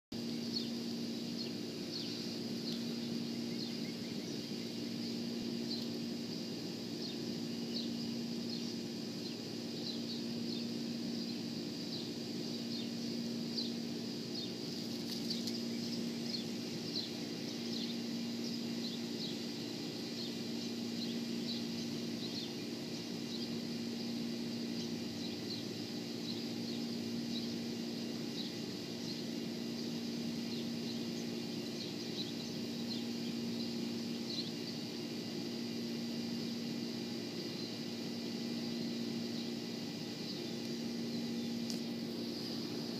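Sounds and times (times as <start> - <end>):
low hum: 0.1 - 42.9.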